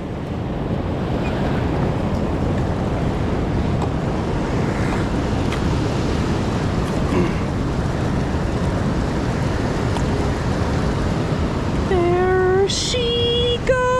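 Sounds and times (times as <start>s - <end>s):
river water rushing: 0.0s - 13.9s
wind buffeting microphone: 0.0s - 13.9s.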